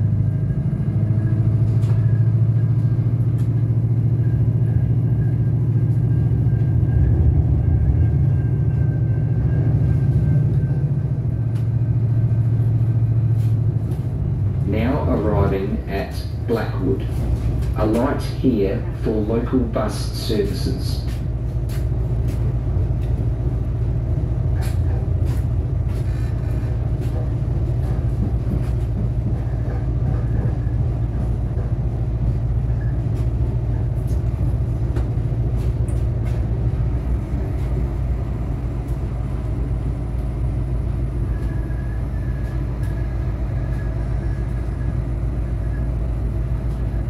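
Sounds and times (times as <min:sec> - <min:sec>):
diesel railcar engine drone: 0:00.0 - 0:47.0
wheels rumbling on track: 0:00.0 - 0:47.0.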